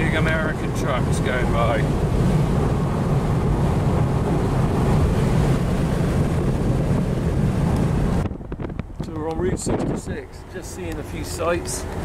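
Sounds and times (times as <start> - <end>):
tyres and engines rumbling: 0.0 - 12.0
wind noise: 0.0 - 12.0.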